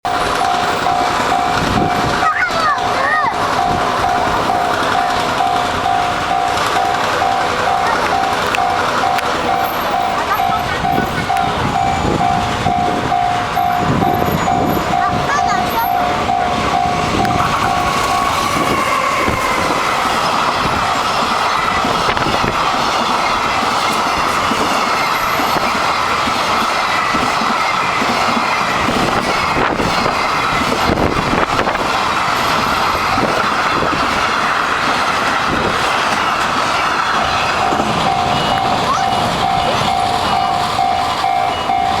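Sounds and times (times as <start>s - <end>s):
level crossing warning bell: 0.0s - 42.0s
train wheels clickety-clack: 0.1s - 42.0s.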